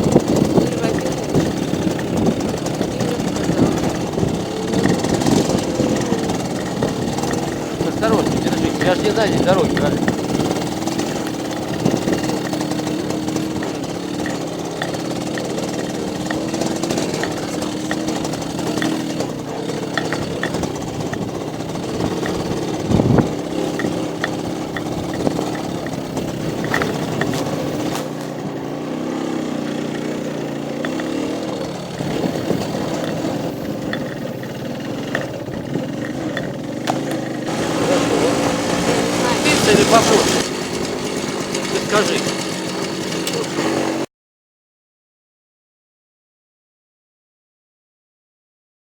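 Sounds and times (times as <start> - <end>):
motorcycle engine running: 0.0 - 44.1
rattles: 0.0 - 44.1.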